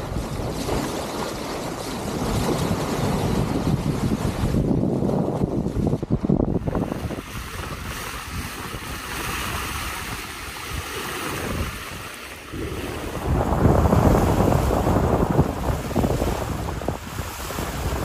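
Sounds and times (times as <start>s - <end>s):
water rushing: 0.0s - 18.0s
waves washing along hull: 0.0s - 18.0s
wind buffeting microphone: 0.0s - 18.0s.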